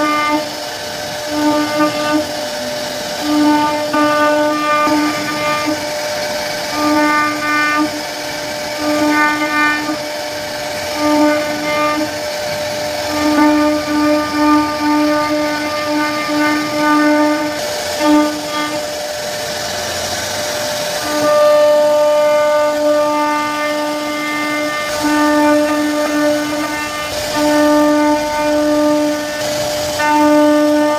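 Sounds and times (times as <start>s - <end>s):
hiss of wood cutting: 0.0s - 30.9s
router spindle whining: 0.0s - 30.9s.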